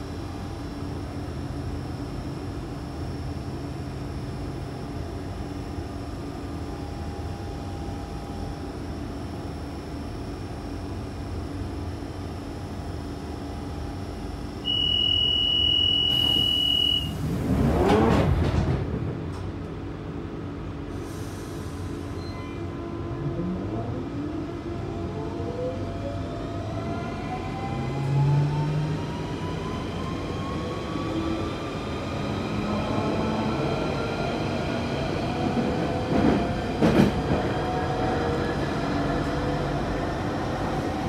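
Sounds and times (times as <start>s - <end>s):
train running rumble and hum: 0.0s - 14.7s, 16.1s - 41.0s.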